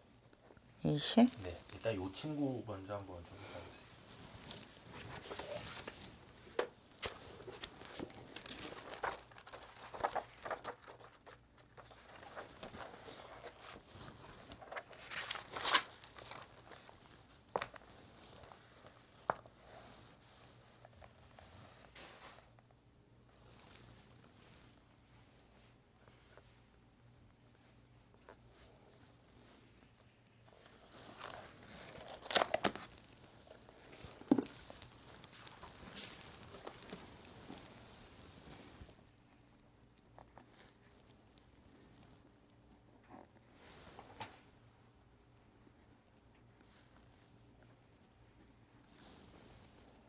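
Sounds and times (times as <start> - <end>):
objects rustling being handled: 0.0 - 44.6, 46.4 - 50.0.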